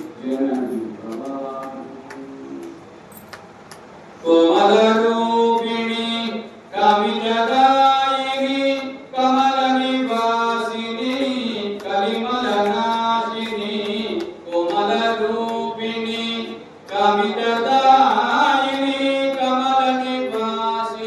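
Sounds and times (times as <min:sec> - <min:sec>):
person chanting mantras: 0:00.0 - 0:02.9, 0:04.2 - 0:21.0.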